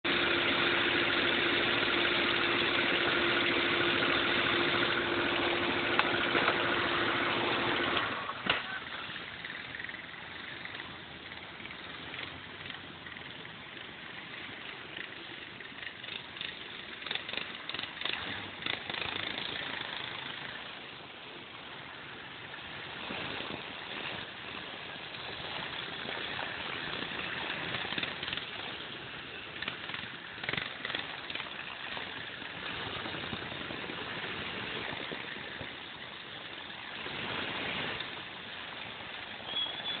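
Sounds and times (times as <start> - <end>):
pickup truck engine in mud: 0.0 - 14.2, 15.2 - 20.8, 22.5 - 40.0.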